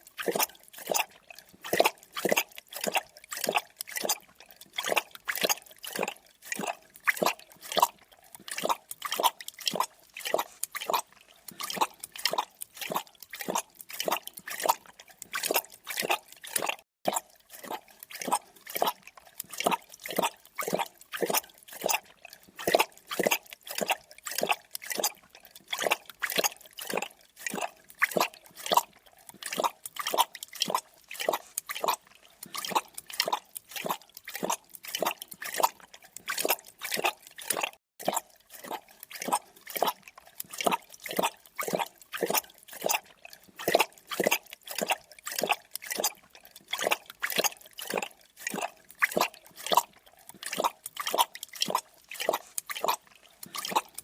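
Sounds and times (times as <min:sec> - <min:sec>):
animal lapping water: 0:00.0 - 0:54.0.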